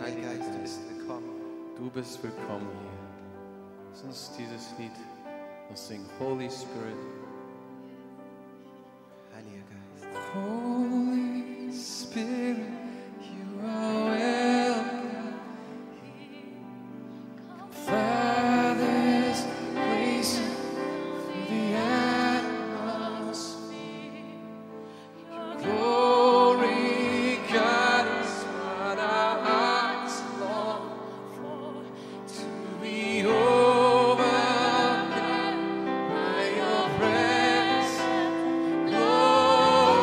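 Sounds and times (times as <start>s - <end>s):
slow live worship music: 0.0s - 40.0s.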